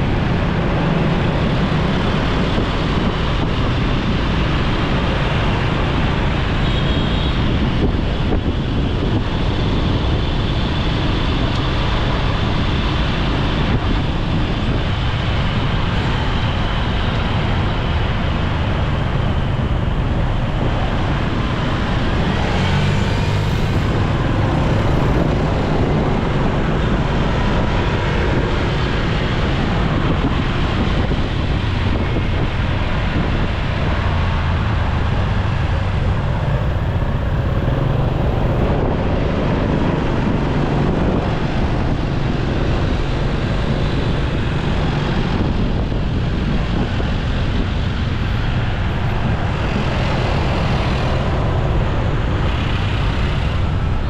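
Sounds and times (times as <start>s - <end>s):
motorcycle engine and road noise: 0.0s - 54.0s
wind on microphone: 0.0s - 54.0s.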